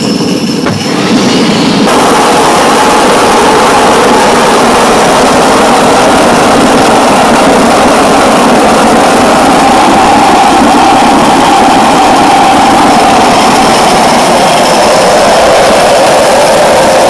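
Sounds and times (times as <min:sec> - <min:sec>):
gas turbine engine running: 0:00.0 - 0:17.0.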